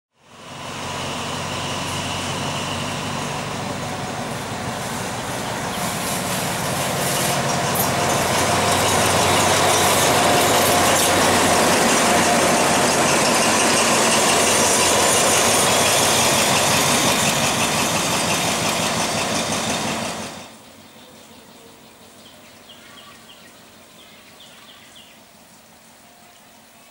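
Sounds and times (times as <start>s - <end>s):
diesel locomotive engine running: 0.1s - 26.1s.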